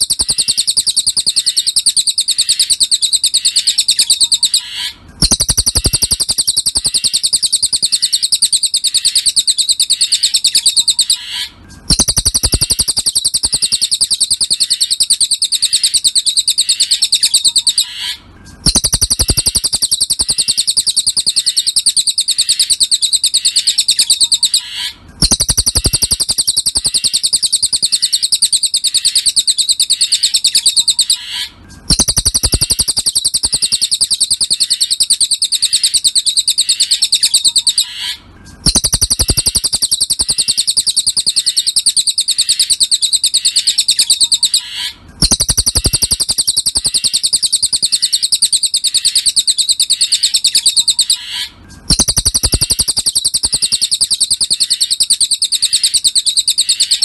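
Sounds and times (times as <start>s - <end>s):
bird singing fast high trill: 0.0s - 57.0s.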